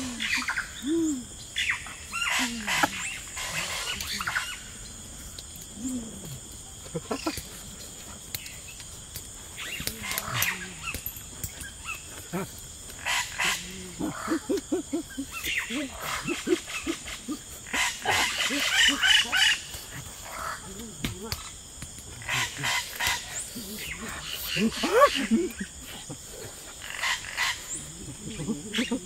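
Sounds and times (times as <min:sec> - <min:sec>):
people grunting and humming: 0:00.0 - 0:01.4, 0:02.2 - 0:26.8, 0:27.7 - 0:29.0
high-pitched insect drone: 0:00.0 - 0:29.0.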